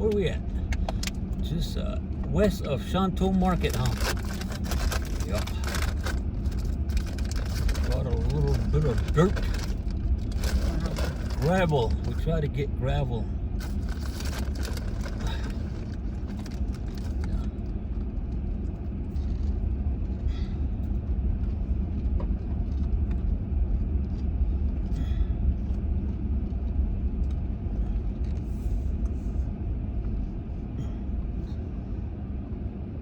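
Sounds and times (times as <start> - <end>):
vehicle driving on gravel: 0.0 - 30.2.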